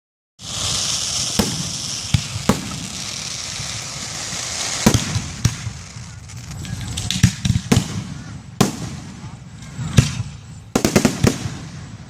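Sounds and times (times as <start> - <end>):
fireworks bangs: 0.4 - 12.0
fireworks hissing: 0.4 - 12.0.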